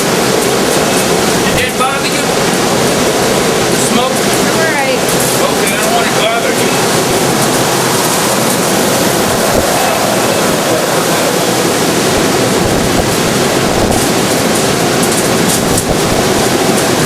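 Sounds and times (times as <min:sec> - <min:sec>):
storm winds rushing: 0:00.0 - 0:17.0.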